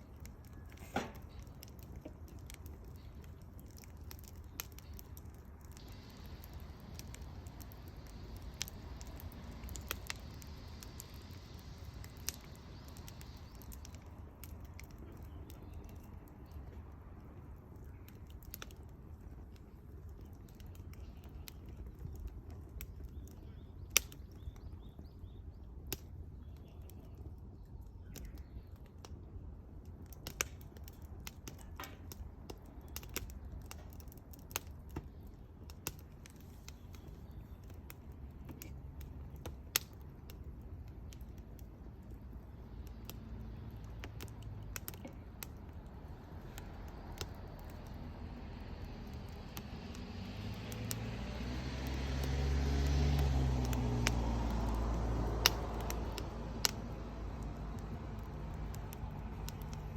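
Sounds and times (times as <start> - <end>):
low steady fire rumble: 0.0 - 59.9
wood fire crackling and popping: 0.0 - 59.9.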